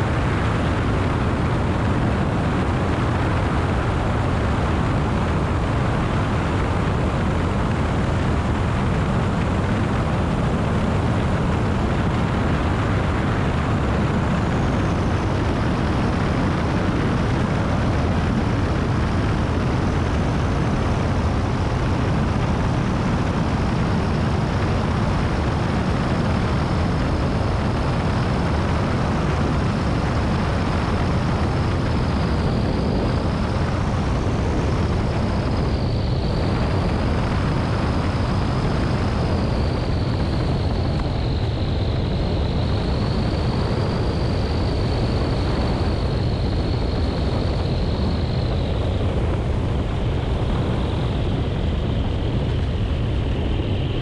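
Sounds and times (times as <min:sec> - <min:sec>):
faint high whine: 0:00.0 - 0:54.0
light aircraft engine and propeller: 0:00.0 - 0:54.0
wind buffeting: 0:00.0 - 0:54.0.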